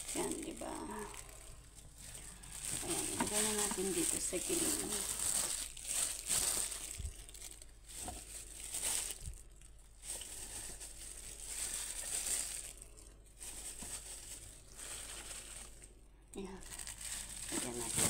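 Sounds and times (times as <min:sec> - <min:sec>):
hands rustling raw meat: 0:00.0 - 0:16.0, 0:16.6 - 0:18.0.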